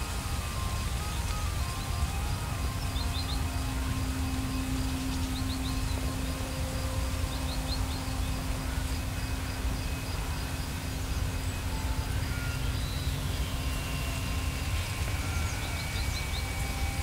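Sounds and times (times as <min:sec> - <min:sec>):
steady insect trill: 0:00.0 - 0:17.0
steady low hum: 0:00.0 - 0:17.0
wind rumbling on microphone: 0:00.0 - 0:17.0.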